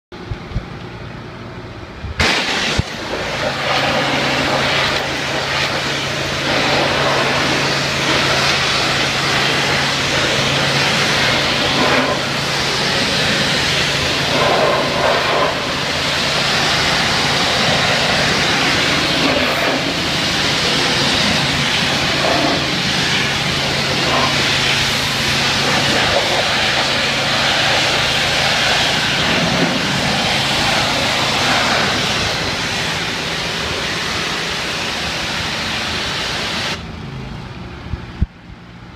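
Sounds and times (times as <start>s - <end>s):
low hum of motor and pump: 0.1s - 38.9s
pressure washer jet hissing on metal: 2.2s - 36.9s.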